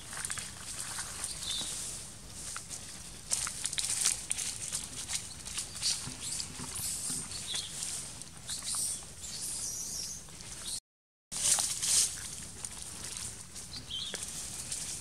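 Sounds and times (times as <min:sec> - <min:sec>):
dry leaves crackling: 0:00.0 - 0:09.6, 0:11.3 - 0:15.0.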